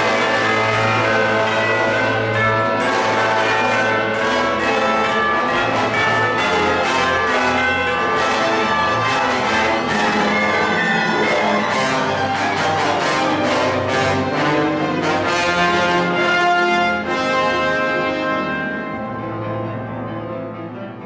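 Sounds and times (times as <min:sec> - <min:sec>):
bell-like tuned percussion: 0:00.0 - 0:17.4
orchestra playing: 0:00.0 - 0:21.0.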